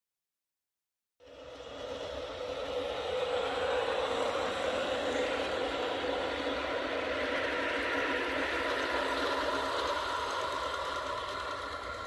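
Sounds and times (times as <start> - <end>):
model train drive whirring: 1.2 - 12.0
model train wheels on rails: 1.2 - 12.0.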